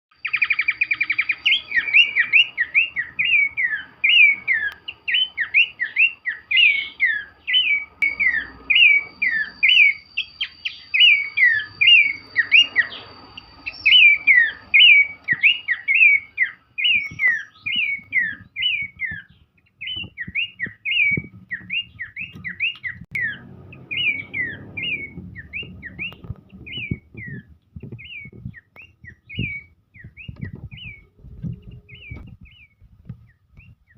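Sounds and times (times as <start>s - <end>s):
bird singing whistled notes: 0.1s - 33.9s.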